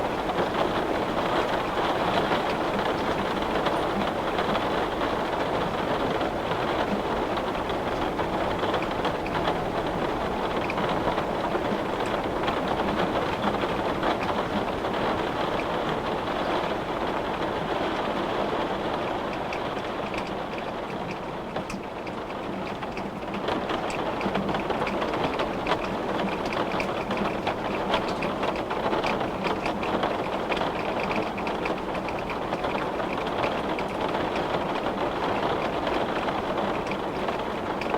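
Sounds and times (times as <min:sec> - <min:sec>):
heavy rain on window glass: 0:00.0 - 0:37.9.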